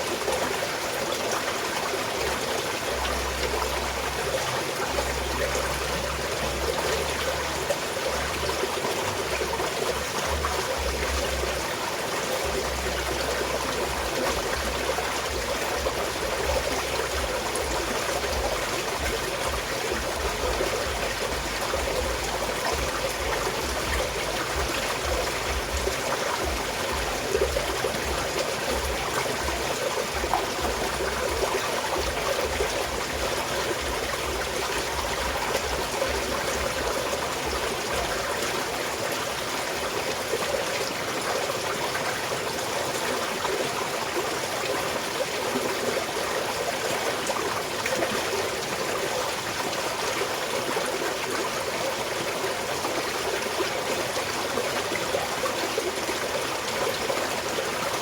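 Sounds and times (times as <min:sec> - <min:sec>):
small stream flowing: 0:00.0 - 0:58.0.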